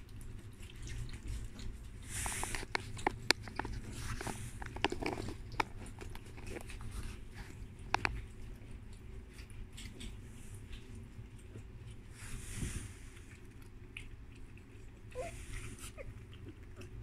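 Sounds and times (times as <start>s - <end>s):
puppies lapping milk: 0.0s - 17.0s.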